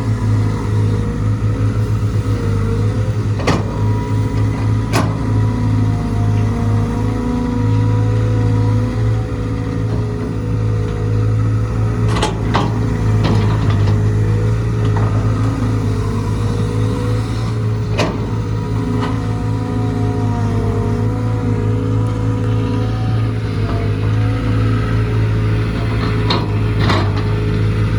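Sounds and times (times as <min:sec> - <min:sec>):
diesel engine running steadily: 0:00.0 - 0:27.9.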